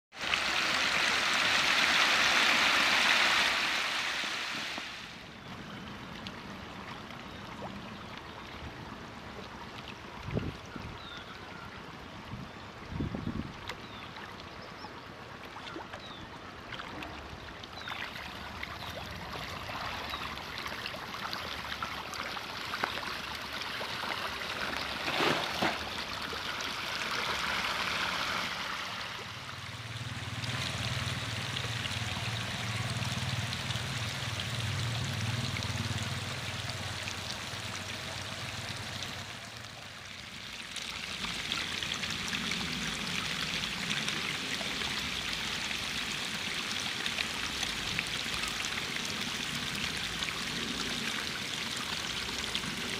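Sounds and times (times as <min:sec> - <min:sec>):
pond water splashing: 0:00.1 - 0:10.5, 0:13.6 - 0:52.9.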